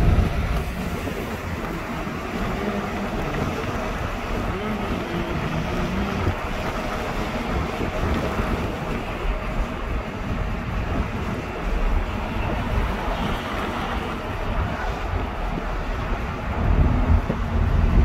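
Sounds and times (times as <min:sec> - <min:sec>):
wind rushing: 0:00.0 - 0:18.0.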